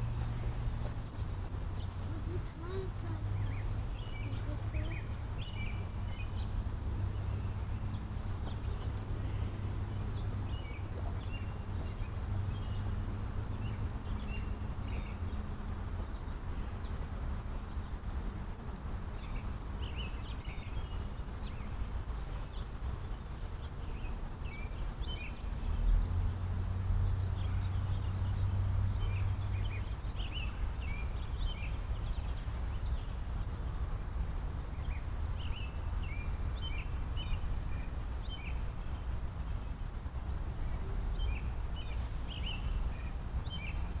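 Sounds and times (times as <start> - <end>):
small birds chirping: 0.0 - 18.1, 19.1 - 44.0.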